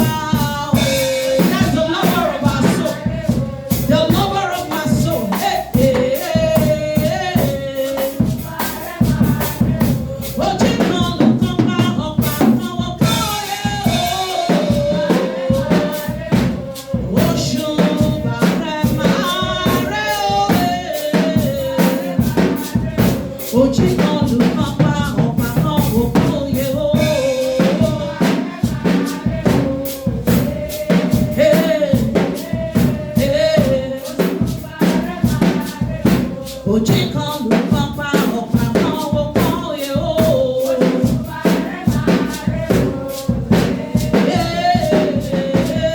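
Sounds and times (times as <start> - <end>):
drum kit beat: 0.0 - 45.9
person singing: 0.0 - 45.9.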